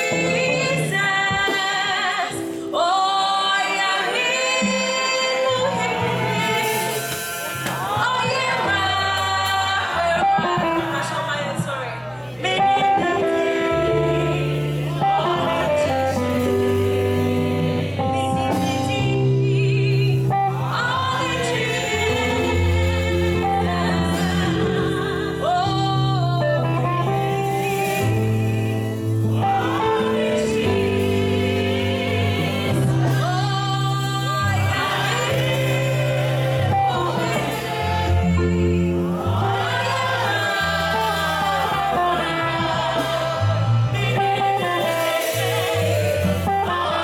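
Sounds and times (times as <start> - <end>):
gospel singing: 0.0 - 47.0
instrumental backing with bass line: 0.0 - 47.0.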